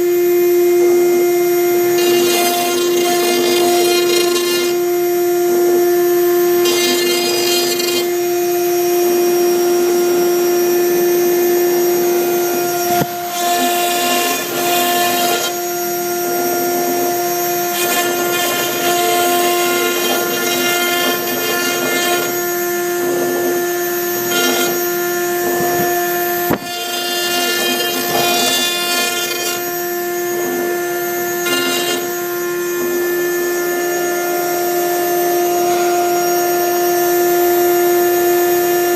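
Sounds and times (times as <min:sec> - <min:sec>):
router spindle high whine: 0:00.0 - 0:38.9
stepper motors buzzing: 0:00.8 - 0:10.0, 0:11.3 - 0:34.3.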